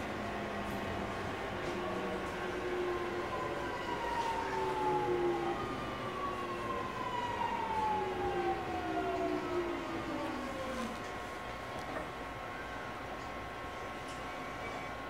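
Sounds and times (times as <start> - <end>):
train motors whining: 0.0 - 13.9.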